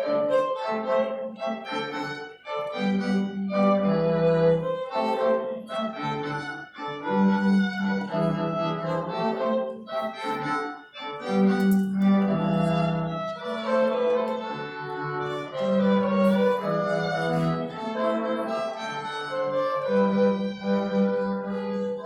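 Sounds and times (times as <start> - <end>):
string quartet playing: 0.0 - 22.0.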